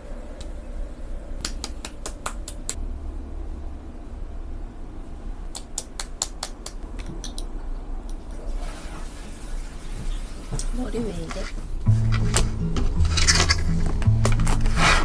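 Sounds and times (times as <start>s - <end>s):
low steady hum: 0.0s - 8.6s, 10.7s - 15.0s.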